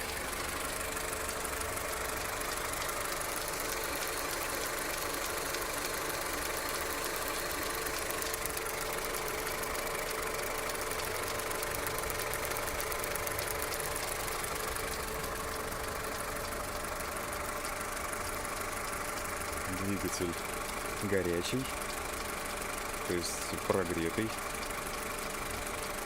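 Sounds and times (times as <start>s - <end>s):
car engine running: 0.0s - 26.0s
fast regular engine knocking: 0.0s - 26.0s.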